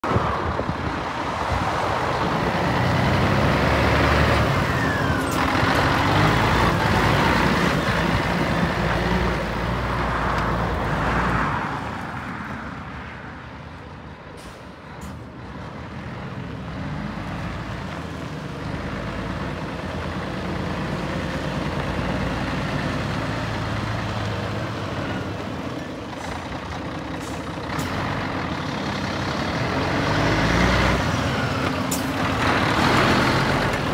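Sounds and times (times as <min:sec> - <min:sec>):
diesel truck driving on gravel: 0:00.0 - 0:12.7, 0:13.6 - 0:33.9.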